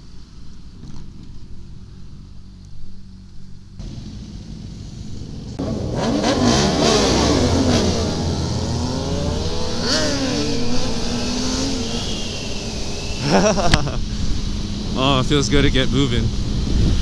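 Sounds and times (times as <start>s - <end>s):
motorcycle engines revving: 0.8s - 17.0s.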